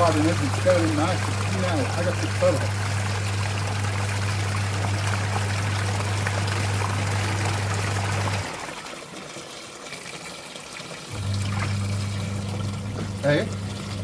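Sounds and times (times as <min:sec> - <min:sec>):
washing machine motor humming: 0:00.0 - 0:14.0
water splashing: 0:00.0 - 0:14.0.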